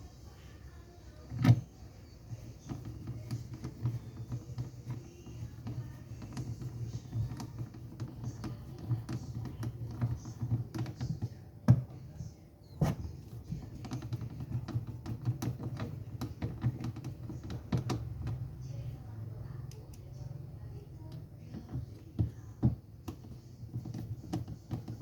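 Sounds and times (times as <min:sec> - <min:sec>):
hands clicking and tapping parts: 0:02.3 - 0:18.6, 0:21.1 - 0:25.0.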